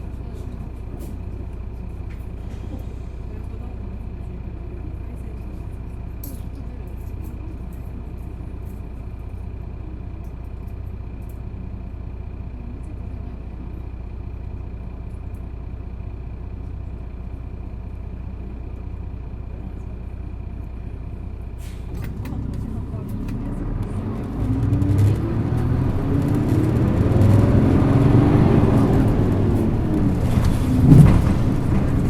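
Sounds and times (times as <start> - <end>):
bus diesel engine hum: 0.0 - 32.0.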